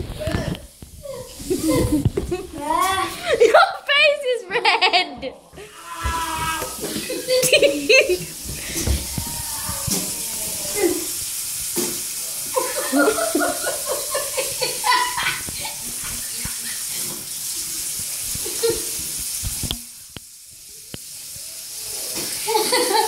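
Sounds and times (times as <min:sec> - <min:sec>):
tap water running into sink: 0:00.0 - 0:03.6, 0:04.7 - 0:23.0.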